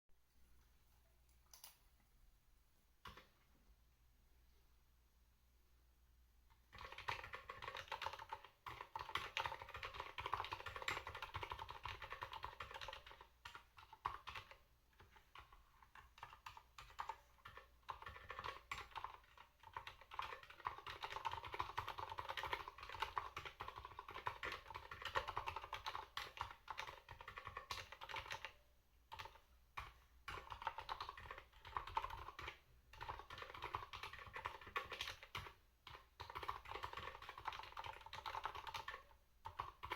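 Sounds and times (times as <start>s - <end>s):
typing on mechanical keyboard: 3.0s - 3.3s, 6.7s - 39.9s.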